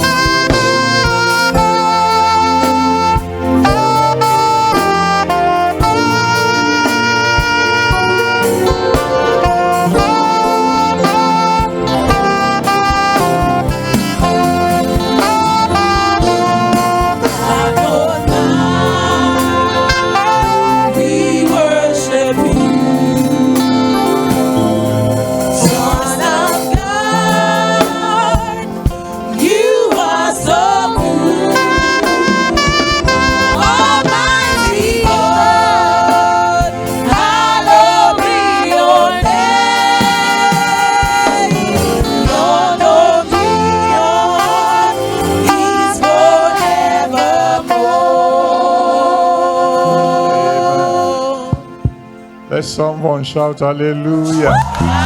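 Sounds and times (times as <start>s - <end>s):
gospel singing: 0.0s - 55.0s
instrumental backing: 0.0s - 55.0s.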